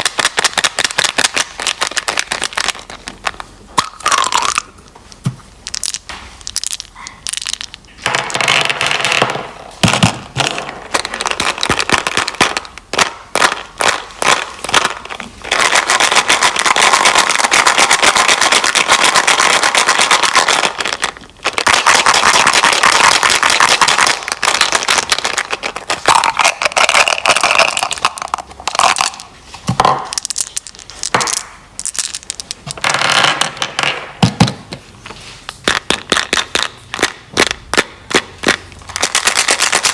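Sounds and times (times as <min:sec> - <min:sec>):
candy crackling and crunching: 0:00.0 - 0:04.9, 0:05.6 - 0:29.4, 0:30.0 - 0:33.8, 0:35.5 - 0:39.9.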